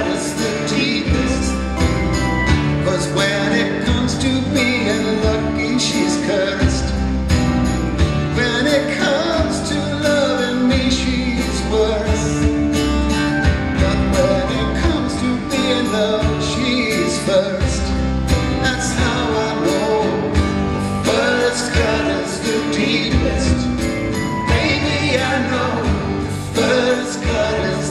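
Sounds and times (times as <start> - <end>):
man singing: 0.0 - 7.3, 8.2 - 12.8, 13.4 - 27.9
strummed acoustic guitars: 0.0 - 27.9.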